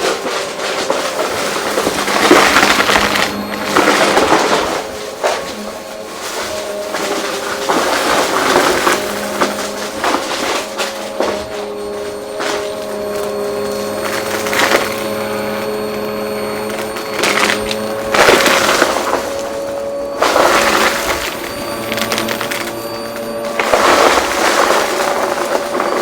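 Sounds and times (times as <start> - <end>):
debris crackling up vacuum suction: 0.0 - 26.0
vacuum cleaner motor hum: 0.0 - 26.0.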